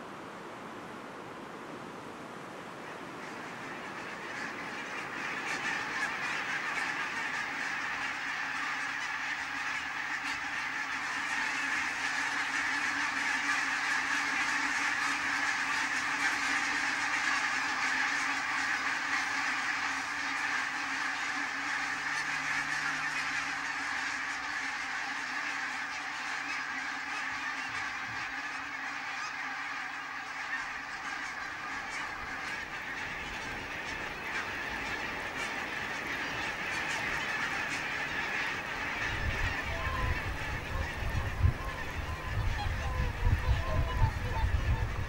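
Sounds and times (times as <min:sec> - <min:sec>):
flock of geese calling: 0:02.4 - 0:45.0.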